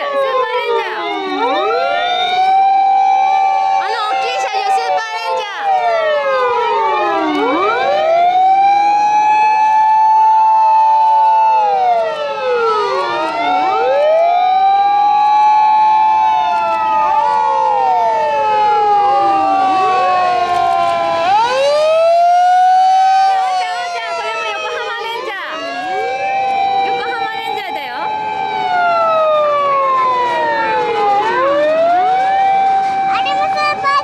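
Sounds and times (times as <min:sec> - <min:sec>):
fire engine sirens: 0:00.0 - 0:34.0.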